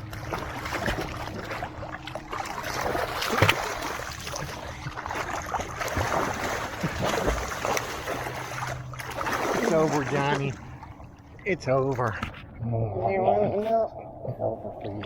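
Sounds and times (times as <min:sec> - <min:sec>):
water sloshing and splashing: 0:00.0 - 0:12.6.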